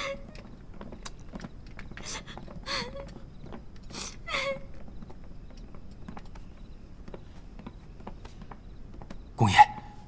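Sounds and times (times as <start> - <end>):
footsteps: 0.0 - 10.0.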